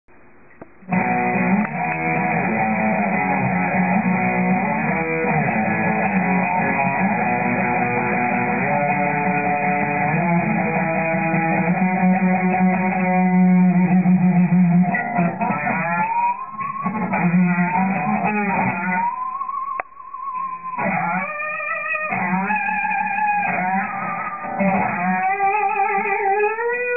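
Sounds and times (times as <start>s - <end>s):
electric guitar with string bends: 0.1s - 26.9s.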